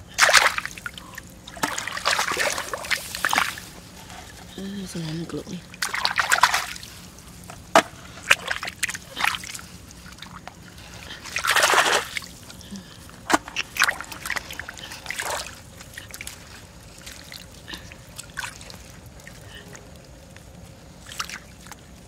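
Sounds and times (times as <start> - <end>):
shallow water splashing: 0.0 - 22.0.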